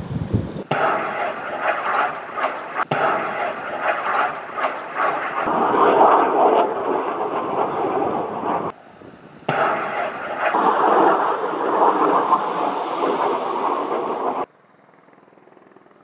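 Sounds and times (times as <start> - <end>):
sharp crack: 0.6 - 8.8, 9.5 - 14.5
distant rushing roar: 0.6 - 14.5.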